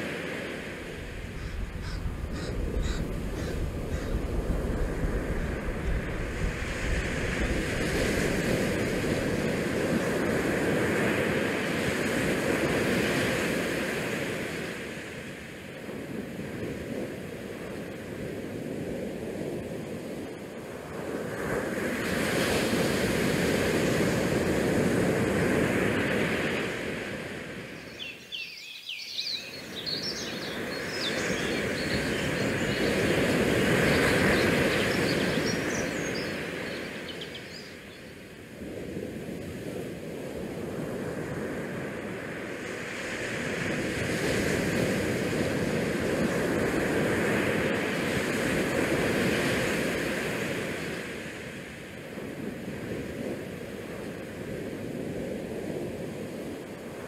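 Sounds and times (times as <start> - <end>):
wind rushing over microphone: 0.0 - 28.5, 29.1 - 57.0.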